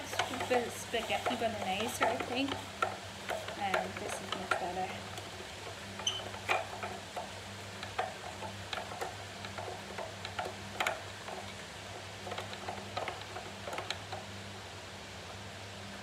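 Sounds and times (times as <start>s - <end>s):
spiralizer crank clicking: 0.0s - 14.6s.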